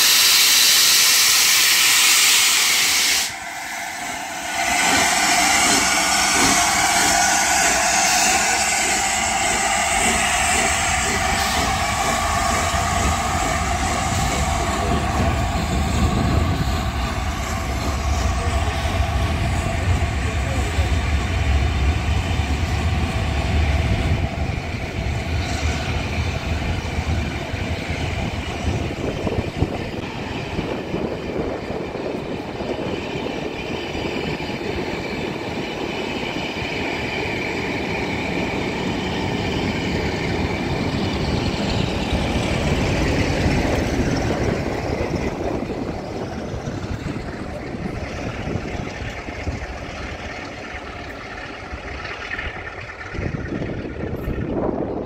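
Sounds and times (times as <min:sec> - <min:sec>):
steam train rolling past: 0:00.0 - 0:55.0.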